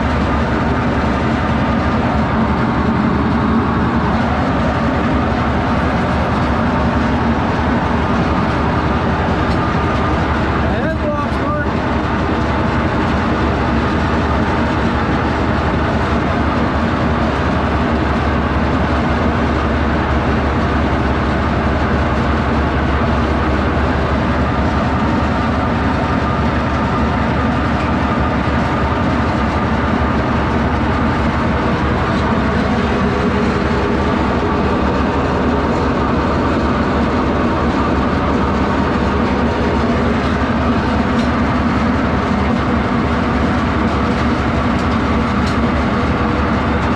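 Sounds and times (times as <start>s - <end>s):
diesel engine droning: 0.0s - 46.9s.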